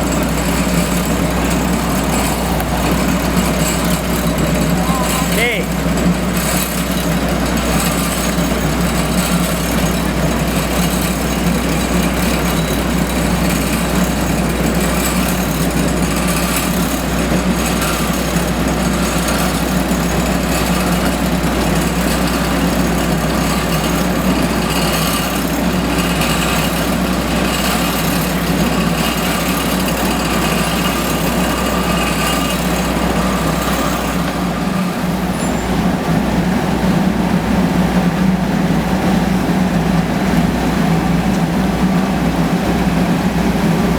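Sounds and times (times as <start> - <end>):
heavy machinery diesel engines: 0.0 - 43.9.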